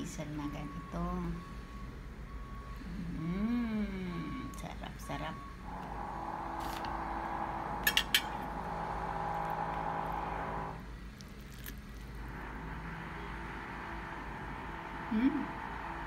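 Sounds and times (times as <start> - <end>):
background hum: 2.4 - 16.0.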